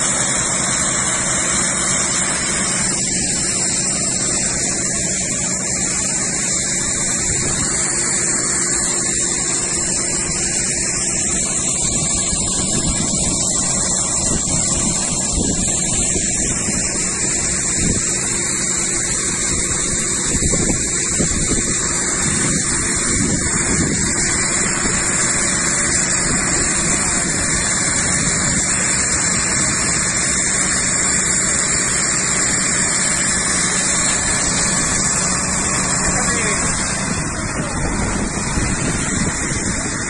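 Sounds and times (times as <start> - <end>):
hose spraying water: 0.0 - 40.0
water pump whining: 0.0 - 40.0.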